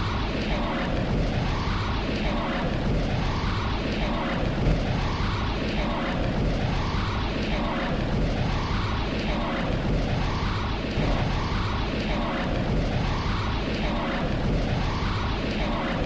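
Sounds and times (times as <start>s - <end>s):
looped rushing rumble: 0.0s - 16.0s.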